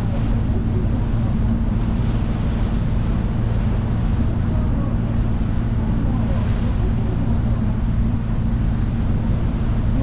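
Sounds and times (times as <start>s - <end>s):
boat engine drone: 0.0s - 10.0s
rushing water from wake: 0.0s - 10.0s.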